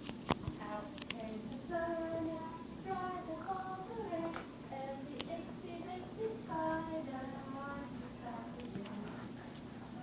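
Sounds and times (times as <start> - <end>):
young child singing: 0.5 - 9.2.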